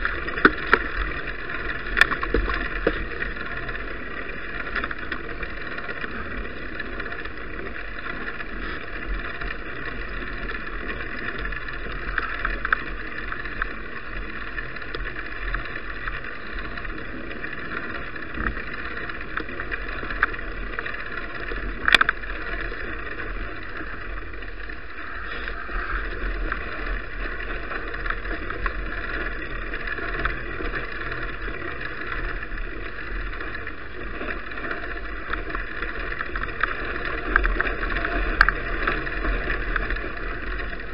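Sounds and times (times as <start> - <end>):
bicycle road noise: 0.0 - 40.9.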